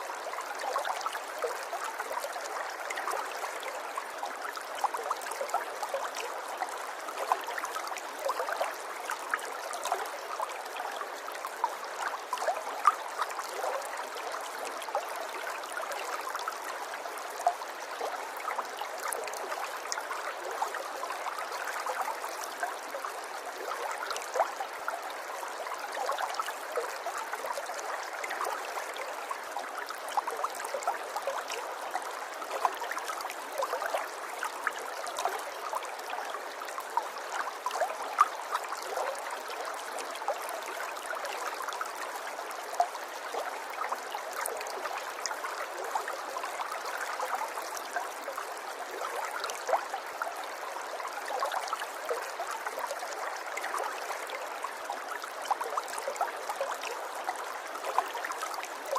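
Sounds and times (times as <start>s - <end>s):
stream babbling: 0.0s - 58.9s.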